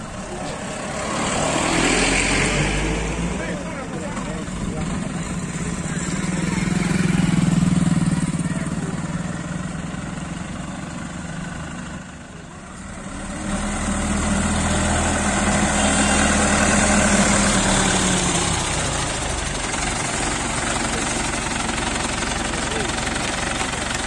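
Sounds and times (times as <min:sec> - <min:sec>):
passing motorcycle engine: 0:00.2 - 0:23.0
crane diesel engine running: 0:02.8 - 0:24.0.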